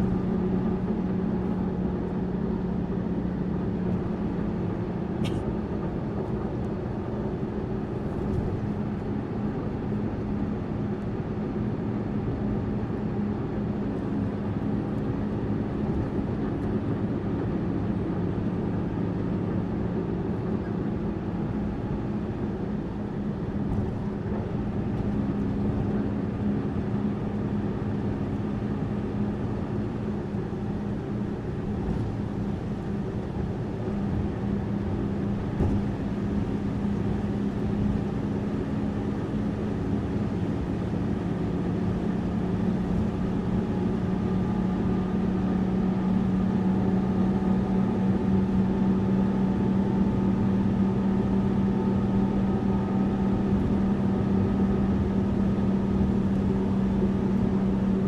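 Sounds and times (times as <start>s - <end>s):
bus engine running: 0.0s - 58.0s
road noise: 0.0s - 58.0s.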